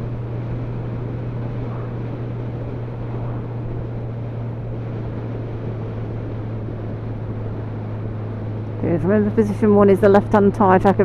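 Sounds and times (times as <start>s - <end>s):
motorcycle engine drone: 0.0s - 11.0s
road noise: 0.0s - 11.0s
wind noise: 0.0s - 11.0s.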